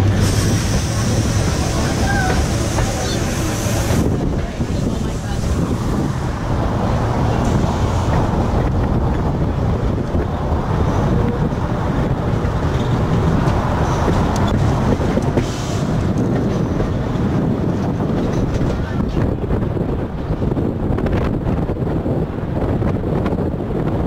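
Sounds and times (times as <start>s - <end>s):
tram wheels rumbling on rails: 0.0s - 24.0s
wind buffeting microphone: 0.0s - 24.0s.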